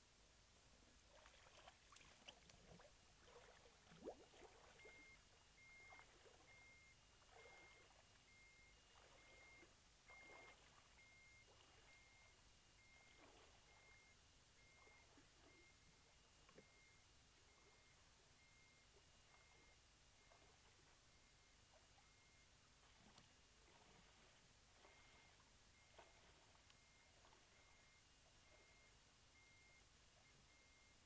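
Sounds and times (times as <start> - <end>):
water splashing and sloshing: 1.0 - 18.0, 18.6 - 28.9.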